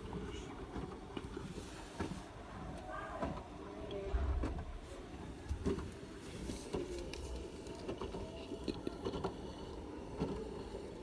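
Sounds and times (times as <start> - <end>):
washing machine rumble: 0.0 - 11.0.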